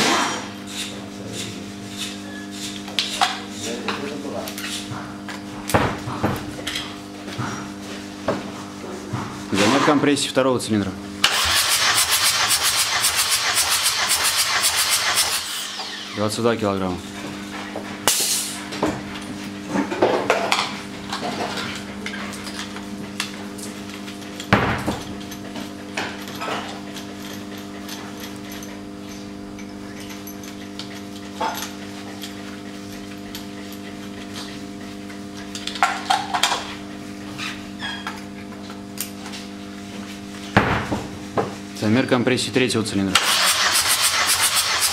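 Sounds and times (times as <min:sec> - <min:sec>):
steady multi-tone hum: 0:00.0 - 0:44.9.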